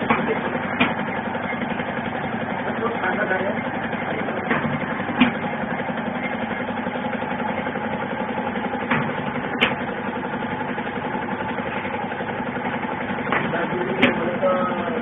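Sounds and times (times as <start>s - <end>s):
machine mechanical hum: 0.0s - 15.0s.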